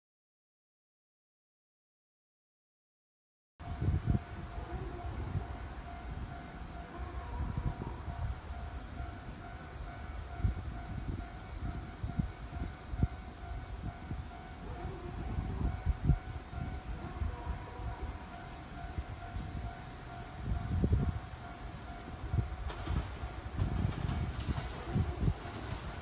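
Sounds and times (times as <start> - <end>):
wind buffeting microphone: 3.6 - 9.0, 9.8 - 26.0
cicadas droning: 3.6 - 26.0
faint steady tone: 3.6 - 26.0.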